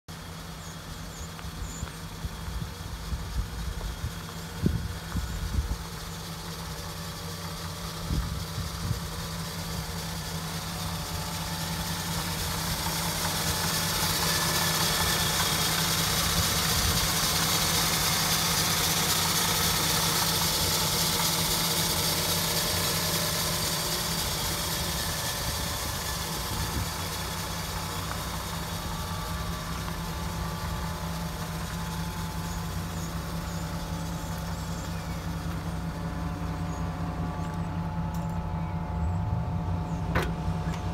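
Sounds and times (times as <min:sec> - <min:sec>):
pickup truck engine idling: 0:00.1 - 0:40.9.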